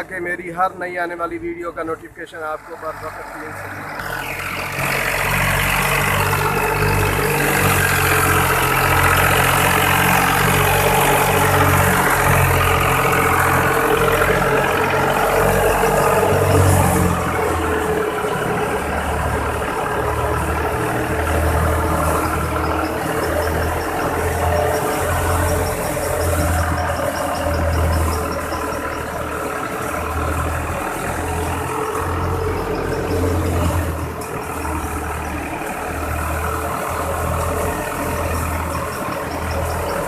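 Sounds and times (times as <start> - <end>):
diesel tractor engine pulsing: 0.0 - 40.0.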